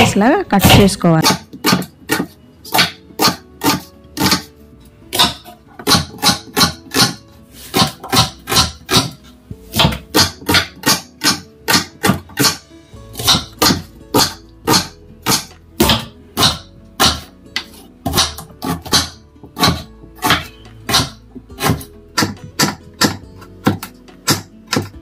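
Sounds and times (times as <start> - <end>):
background music: 0.0 - 25.0
knife chopping on cutting board: 0.6 - 4.5, 5.1 - 25.0.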